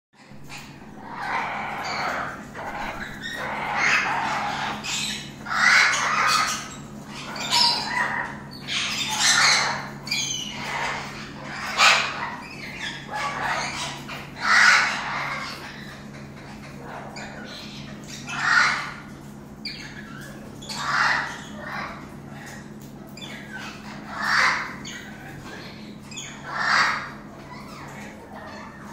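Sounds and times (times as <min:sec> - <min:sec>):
parrot squawking: 0:00.3 - 0:28.9.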